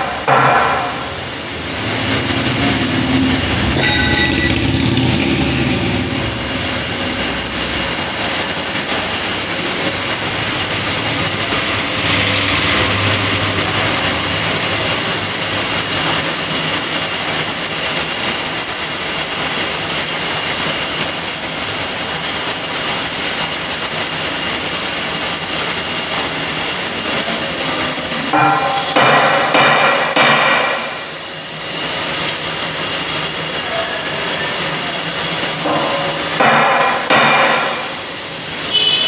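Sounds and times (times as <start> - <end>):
high ringing tone: 0.0 - 39.0
lathe cutting metal: 0.0 - 39.0.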